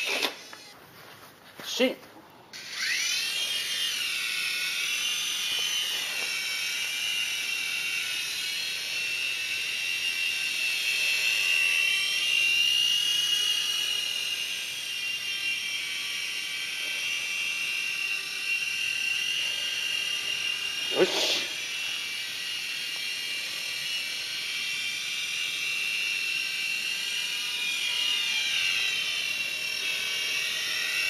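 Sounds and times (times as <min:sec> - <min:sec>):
toy helicopter motor whine: 0:00.0 - 0:00.8, 0:02.5 - 0:31.0.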